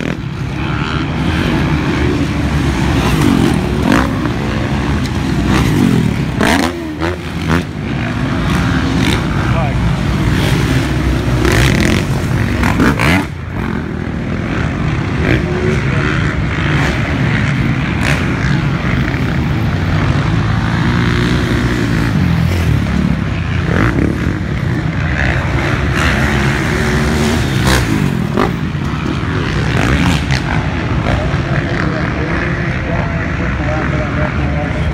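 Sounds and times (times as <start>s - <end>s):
dirt bike engines revving: 0.0s - 34.9s.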